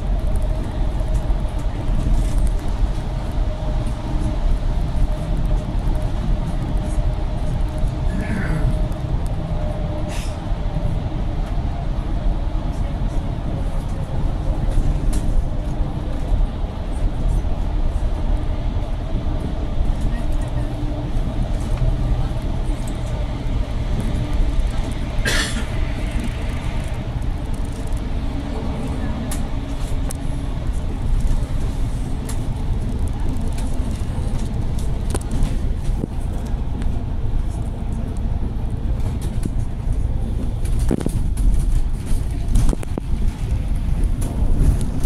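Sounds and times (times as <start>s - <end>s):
bus engine and tyres rumbling: 0.0s - 45.0s.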